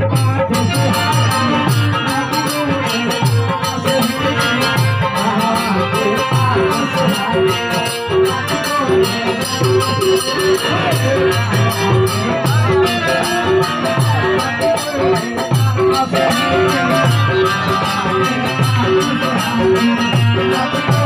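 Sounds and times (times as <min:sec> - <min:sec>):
drum beat: 0:00.0 - 0:21.0
man singing into a microphone: 0:00.0 - 0:21.0.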